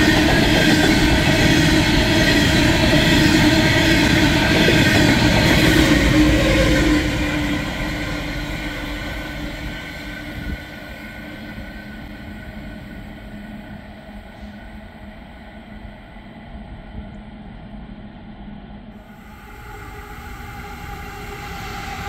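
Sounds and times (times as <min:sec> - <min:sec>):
empty coal train passing: 0:00.0 - 0:22.0
rumble of train wagons: 0:00.0 - 0:22.0.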